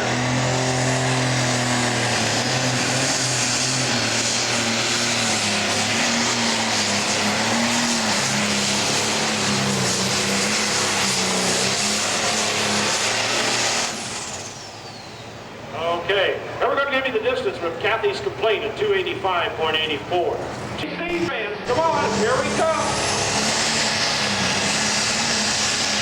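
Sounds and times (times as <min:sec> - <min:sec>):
diesel engine running flat out: 0:00.0 - 0:26.0.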